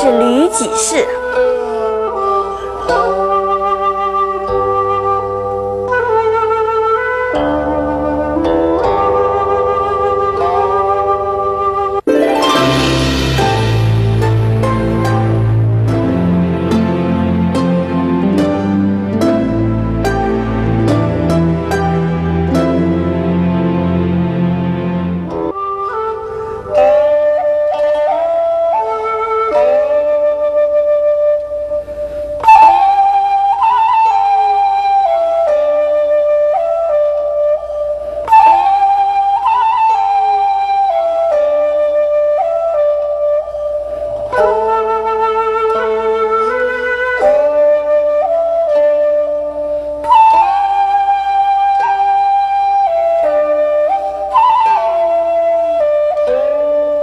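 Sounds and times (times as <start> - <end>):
flute melody: 0.0 - 57.0.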